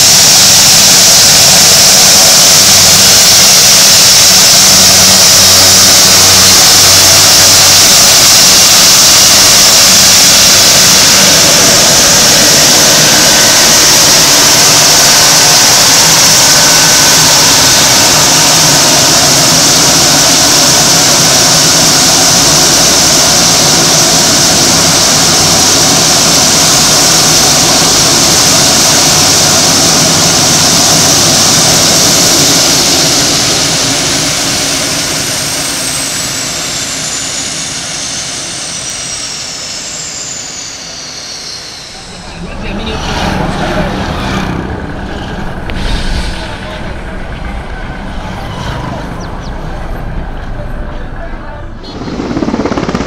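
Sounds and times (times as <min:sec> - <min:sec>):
high turbine whine: 0:00.0 - 0:53.0
low propeller hum: 0:00.0 - 0:53.0.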